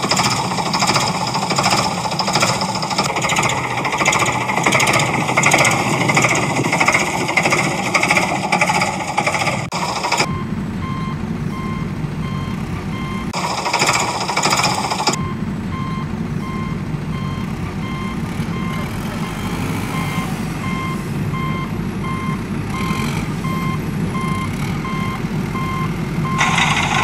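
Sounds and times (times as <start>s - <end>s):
low engine rumble: 0.0s - 27.0s
reversing alarm beeping: 0.0s - 27.0s.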